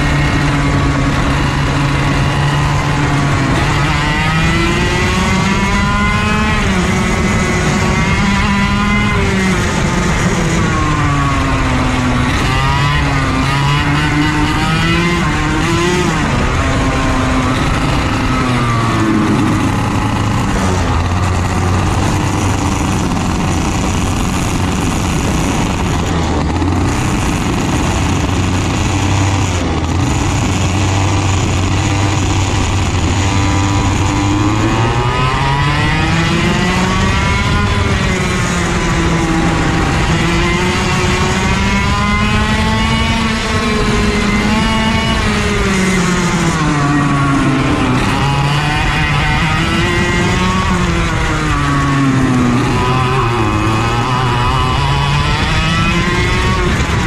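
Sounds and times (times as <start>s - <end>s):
racing kart engine revving: 0.0s - 57.0s.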